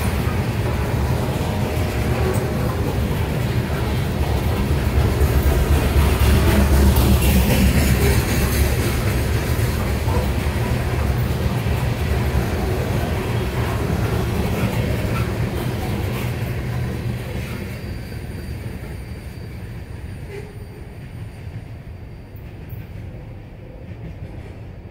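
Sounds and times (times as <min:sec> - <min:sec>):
freight train rolling on steel wheels: 0:00.0 - 0:24.9.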